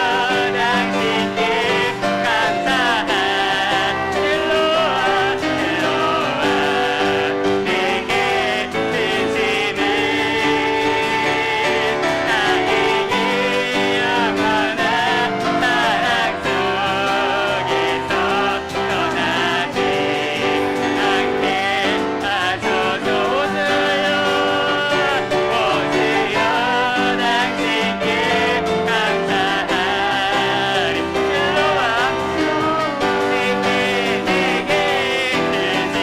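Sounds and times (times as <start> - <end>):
piano accompaniment: 0.0 - 36.0
vocalists singing worship song: 0.0 - 36.0.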